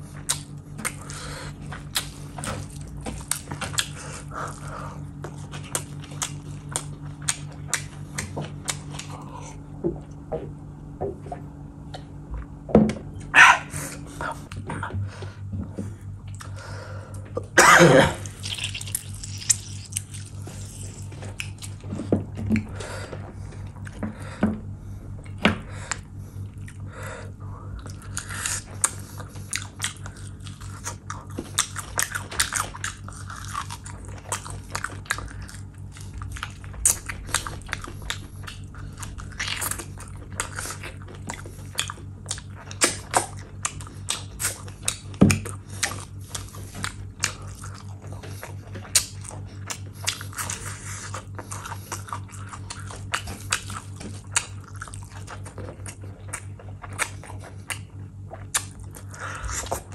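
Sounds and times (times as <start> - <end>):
wet chewing and lip-smacking: 0.0 - 10.2, 18.2 - 24.0, 25.2 - 26.9, 27.8 - 59.9
low hum: 0.0 - 59.9.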